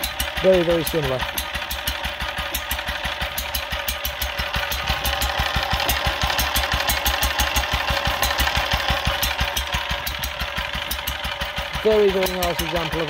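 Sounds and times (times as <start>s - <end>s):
stationary engine running: 0.0s - 13.0s.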